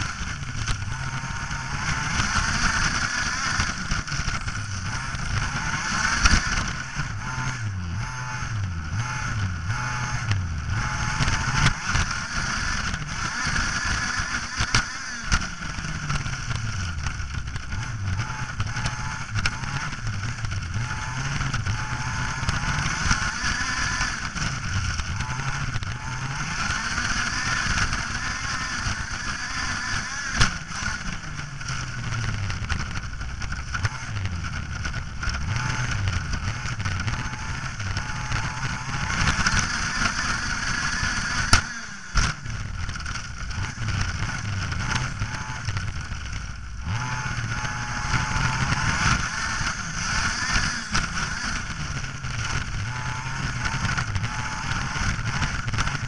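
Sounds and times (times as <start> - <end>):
model vehicle motor revving: 0.0 - 56.0.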